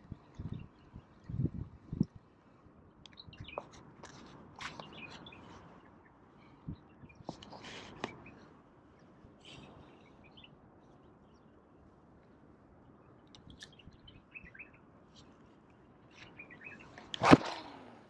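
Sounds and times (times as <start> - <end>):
small birds chirping: 0.0 - 17.6.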